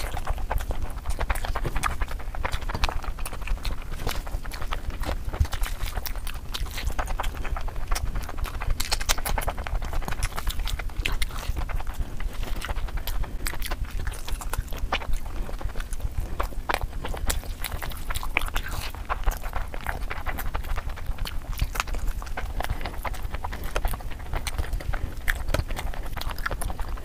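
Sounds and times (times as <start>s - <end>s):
person chewing and lip-smacking: 0.0s - 27.0s.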